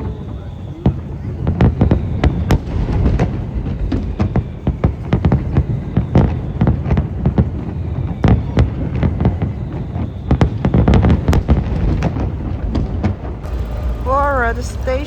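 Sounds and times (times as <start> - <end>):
fireworks bangs and crackles: 0.0 - 15.0
low rumble of booms: 0.0 - 15.0.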